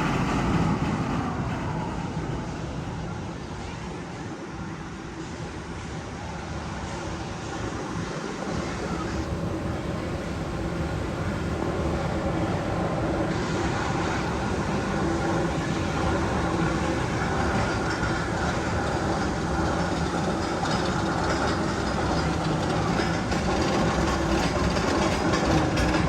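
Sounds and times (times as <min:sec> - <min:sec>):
train-like rumble and clatter: 0:00.0 - 0:26.0.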